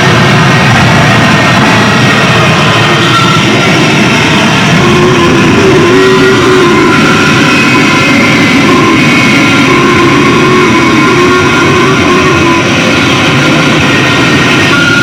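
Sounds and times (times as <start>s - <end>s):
distorted noise wall: 0.0s - 15.0s
shifting whistling tones: 1.3s - 15.0s.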